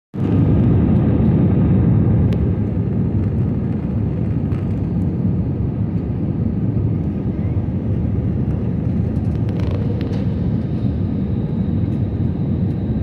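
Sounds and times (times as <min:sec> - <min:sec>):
jet engine drone in cabin: 0:00.2 - 0:13.0.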